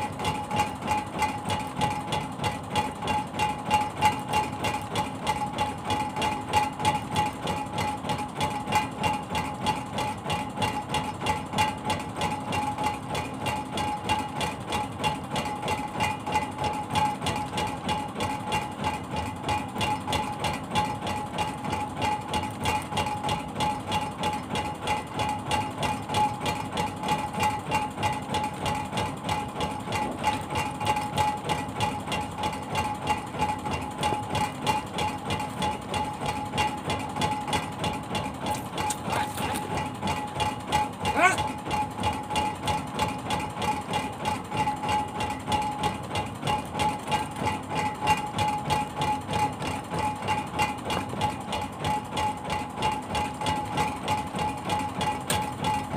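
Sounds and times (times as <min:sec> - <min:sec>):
boat engine pulsing: 0:00.0 - 0:55.9.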